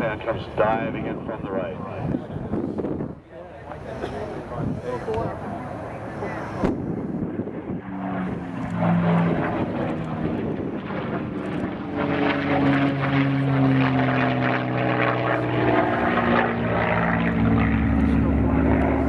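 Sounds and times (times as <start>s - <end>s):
propeller plane engine: 0.0s - 19.0s.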